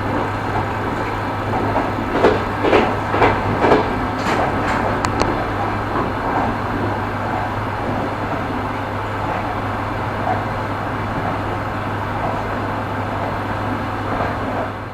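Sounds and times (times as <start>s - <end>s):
train rolling on rails: 0.0s - 14.9s
wheel clack: 0.0s - 14.9s.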